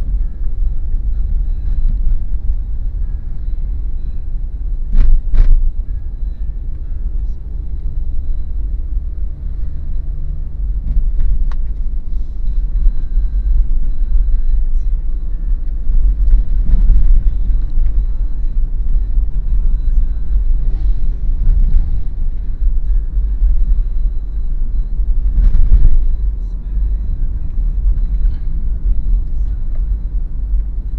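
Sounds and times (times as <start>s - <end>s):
car engine and road rumble: 0.0s - 30.9s.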